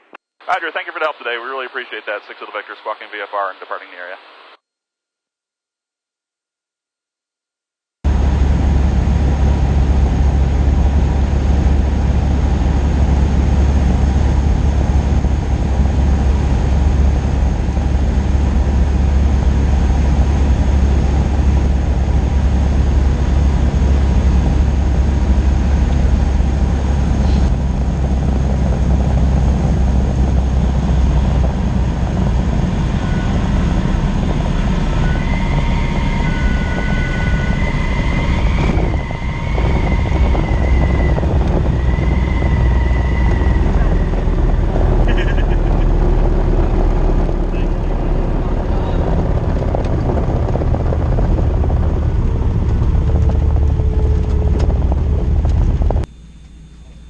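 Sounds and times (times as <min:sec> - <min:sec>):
propeller plane engine droning: 0:08.1 - 0:57.0.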